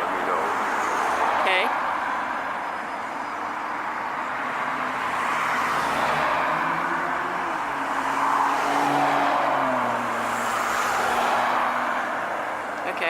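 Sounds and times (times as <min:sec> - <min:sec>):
car tyre and engine noise: 0:00.0 - 0:13.0.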